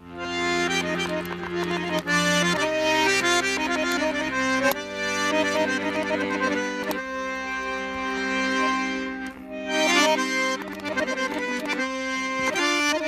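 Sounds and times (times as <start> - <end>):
accordion bass notes: 0.0 - 13.0
accordion melody: 0.0 - 13.0.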